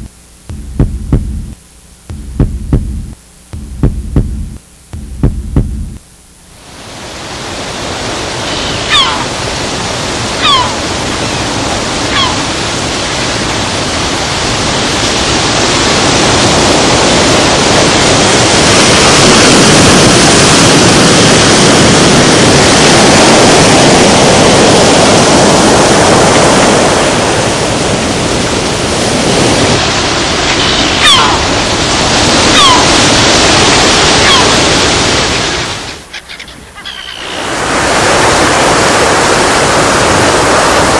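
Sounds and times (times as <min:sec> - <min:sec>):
rushing water: 0:06.6 - 0:40.9.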